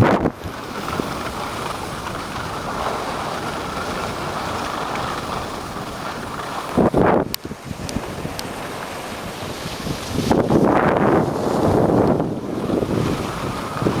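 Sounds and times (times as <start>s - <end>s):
wind on microphone: 0.0s - 14.0s
skis hissing over snow: 0.4s - 14.0s.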